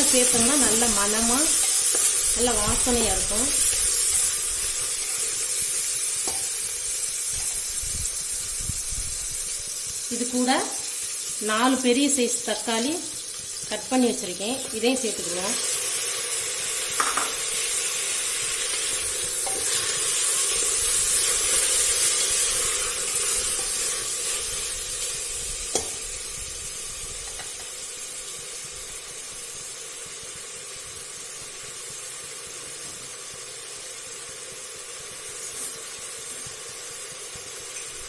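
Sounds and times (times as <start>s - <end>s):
tomatoes sizzling in a pan: 0.0s - 38.0s.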